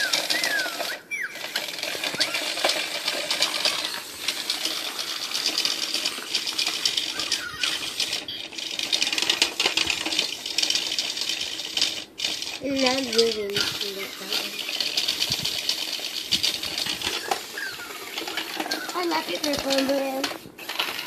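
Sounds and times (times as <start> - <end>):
short high squeaks: 0.0 - 10.4, 12.4 - 20.0
toy motor rattling clatter: 0.0 - 21.0.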